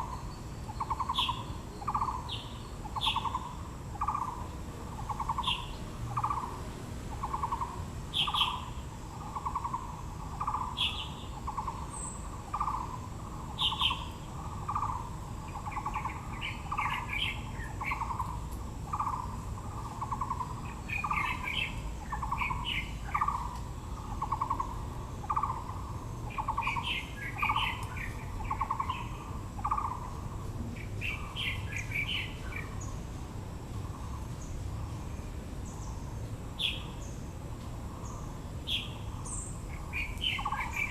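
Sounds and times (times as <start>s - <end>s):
bird low hooting: 0.0s - 33.0s, 37.9s - 40.9s
birds high chirping: 0.0s - 33.1s, 33.8s - 40.9s.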